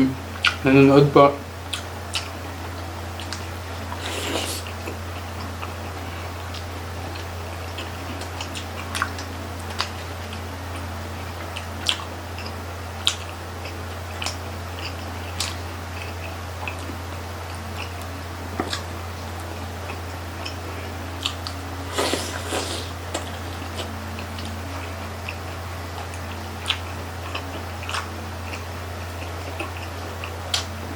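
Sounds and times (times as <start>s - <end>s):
steady low hum: 0.0s - 30.9s
close-up chewing and biting: 3.2s - 10.1s, 11.5s - 30.8s.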